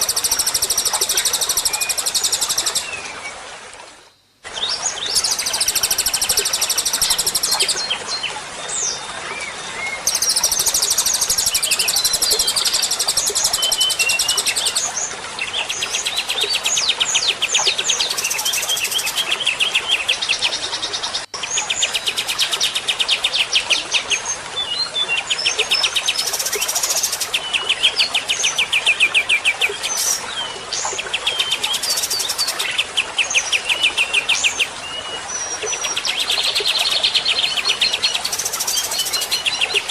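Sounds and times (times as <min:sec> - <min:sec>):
songbirds singing: 0:00.0 - 0:03.4, 0:04.1 - 0:39.9.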